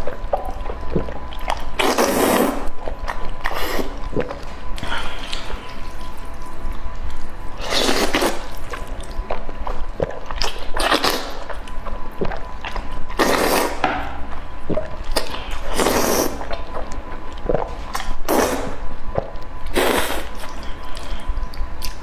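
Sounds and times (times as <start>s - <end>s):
wet chewing: 0.0s - 22.0s
noodles slurped: 0.4s - 6.4s, 7.6s - 9.4s, 10.0s - 13.8s, 14.7s - 22.0s.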